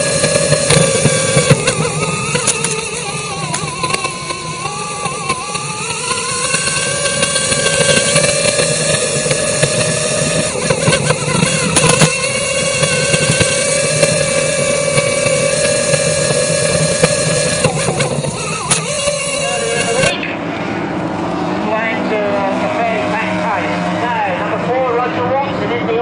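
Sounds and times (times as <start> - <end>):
racing boat engines: 0.0 - 26.0.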